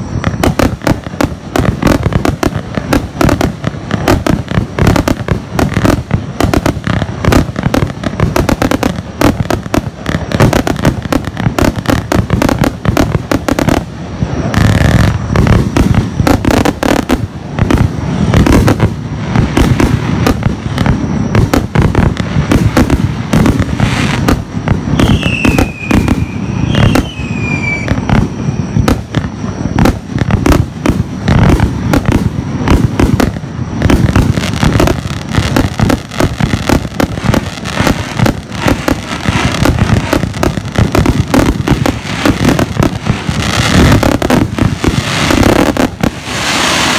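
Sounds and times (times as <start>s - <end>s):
firework cake firing: 0.0s - 46.9s.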